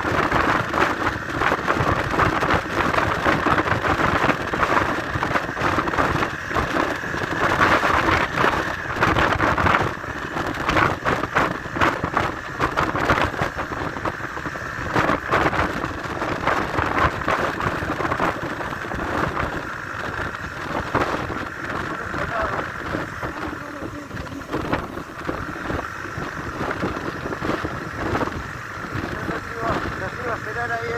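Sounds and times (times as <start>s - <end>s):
motorcycle engine: 0.0s - 30.9s
road noise: 0.0s - 30.9s
wind buffeting microphone: 0.0s - 30.9s.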